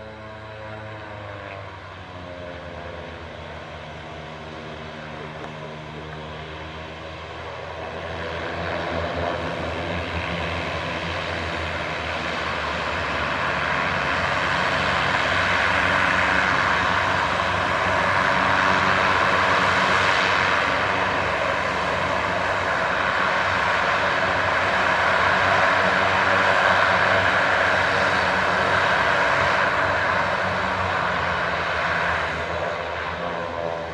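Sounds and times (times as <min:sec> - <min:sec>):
turboprop engines running: 0:00.0 - 0:33.9.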